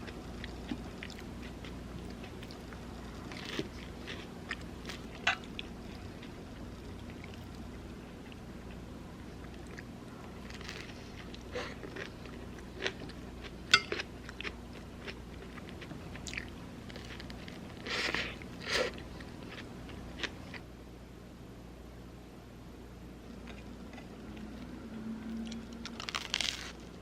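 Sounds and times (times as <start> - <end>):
person chewing and crunching food: 0.0 - 20.7, 23.2 - 27.0
faint steady hum: 0.0 - 27.0.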